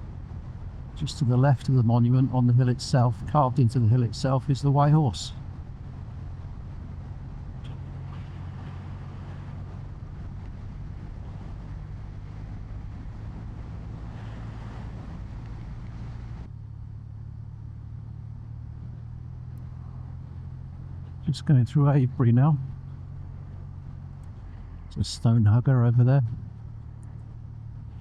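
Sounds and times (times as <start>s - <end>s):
motorcycle engine cruising: 0.0s - 28.0s
wind and road noise: 0.0s - 28.0s.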